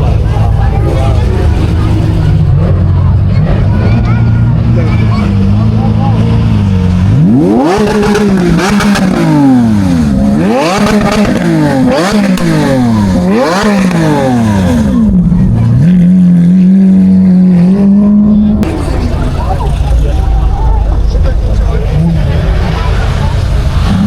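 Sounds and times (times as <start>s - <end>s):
vehicle engine revving and idling: 0.0s - 24.0s.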